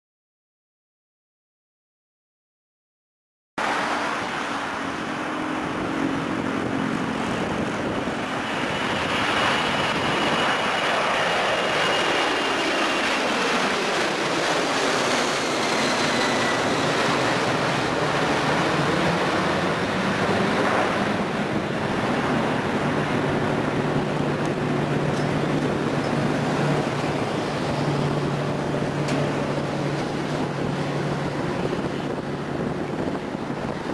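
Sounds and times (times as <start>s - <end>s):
jet engine whine: 3.6s - 33.9s
jet engines roaring overhead: 3.6s - 33.9s.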